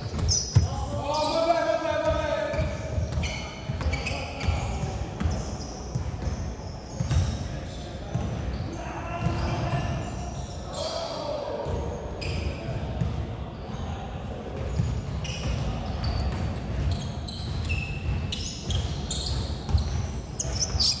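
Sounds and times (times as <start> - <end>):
sneaker squeaks: 0.0 - 21.0.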